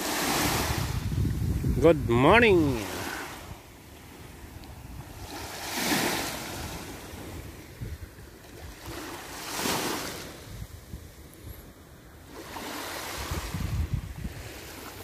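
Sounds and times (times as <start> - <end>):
small waves washing on sand: 0.0 - 15.0.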